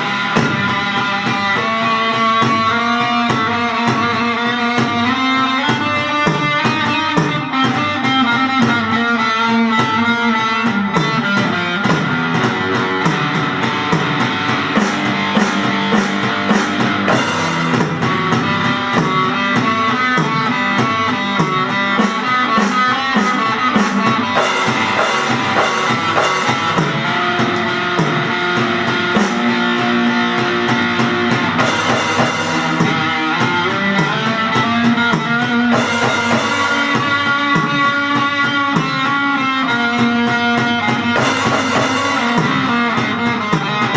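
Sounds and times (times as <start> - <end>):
rock music with guitar and drums: 0.0 - 43.9.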